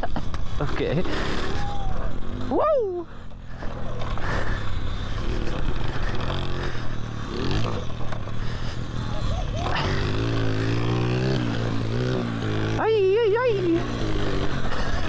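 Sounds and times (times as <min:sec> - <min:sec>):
wind and trail noise: 0:00.0 - 0:15.0.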